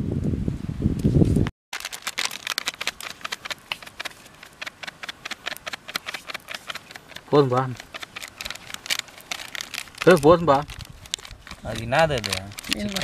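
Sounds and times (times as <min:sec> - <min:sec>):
plastic packet crackling: 0:01.7 - 0:13.0.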